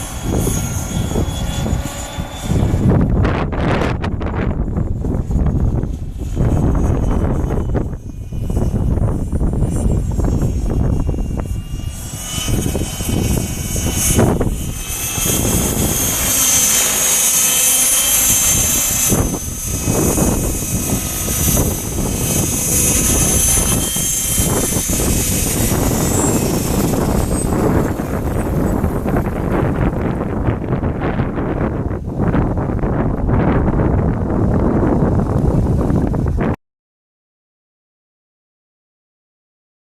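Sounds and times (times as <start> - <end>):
rc helicopter motor whine: 0.0 - 36.6
wind buffeting microphone: 0.0 - 36.6.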